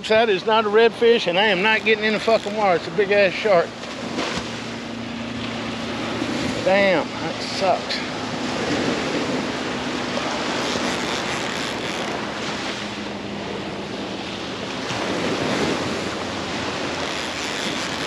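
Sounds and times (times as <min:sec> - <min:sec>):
surf washing onto beach: 0:00.0 - 0:18.0.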